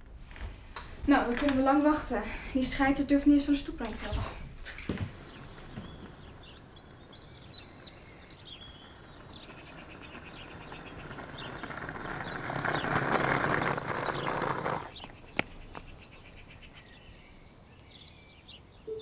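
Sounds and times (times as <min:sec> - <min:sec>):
skateboard wheels rolling on bricks: 0:00.2 - 0:16.2
birds chirping: 0:01.1 - 0:19.0.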